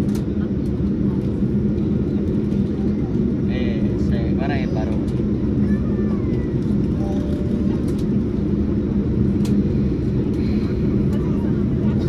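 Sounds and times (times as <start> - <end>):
jet cabin low rumble: 0.0 - 12.0.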